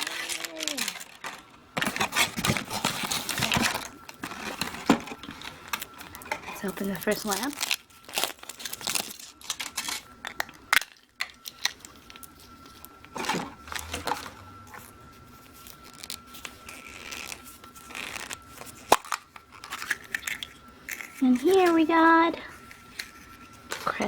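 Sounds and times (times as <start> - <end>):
foil wrapper crinkling and tearing: 0.0 - 14.2, 14.9 - 24.0.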